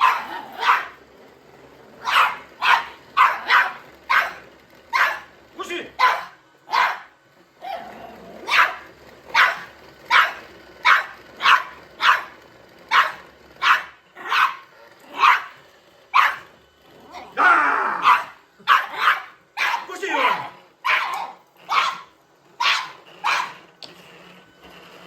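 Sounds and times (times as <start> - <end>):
dog barking: 0.0 - 1.0, 2.0 - 5.3, 6.0 - 16.5, 17.1 - 23.6
dog growling bark: 0.0 - 1.0, 2.0 - 5.3, 6.0 - 15.6, 16.2 - 23.7.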